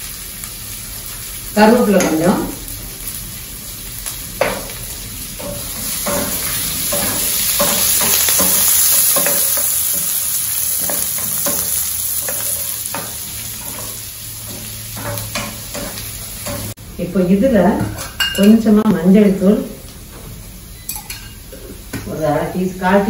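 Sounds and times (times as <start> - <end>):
food sizzling in oil: 0.0 - 16.8, 17.8 - 23.0.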